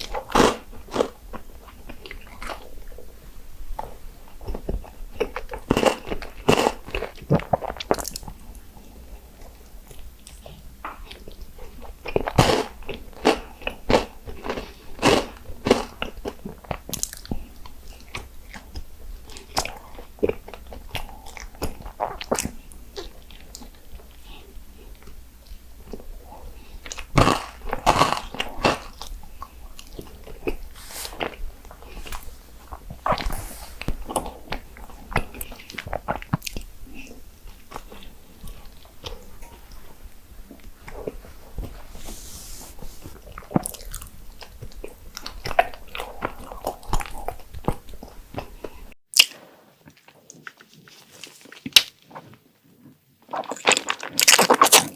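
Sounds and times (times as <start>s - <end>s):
chewing mochi: 3.8s - 41.9s, 43.0s - 52.2s, 53.2s - 54.9s.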